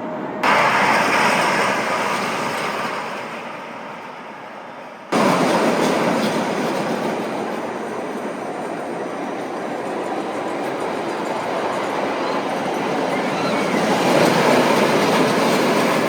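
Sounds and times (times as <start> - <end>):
roller coaster rumbling on track: 0.0 - 16.0.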